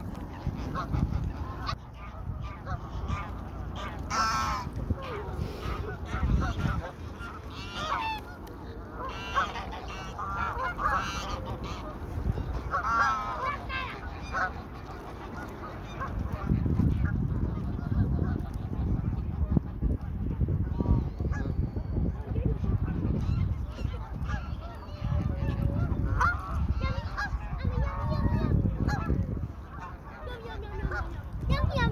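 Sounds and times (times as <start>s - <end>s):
ducks honking: 0.0s - 19.8s, 22.7s - 31.9s.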